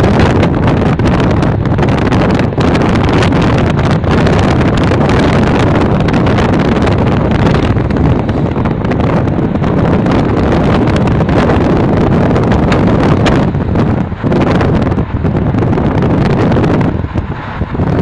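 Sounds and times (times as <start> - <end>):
car driving rumble: 0.0 - 18.0
wind buffeting microphone: 0.0 - 18.0.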